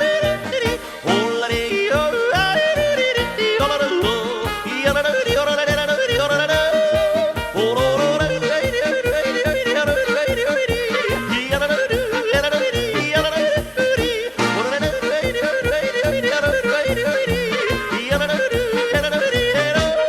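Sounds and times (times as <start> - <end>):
bouncy accompaniment with beat: 0.0 - 20.0
person yodeling: 0.0 - 20.0.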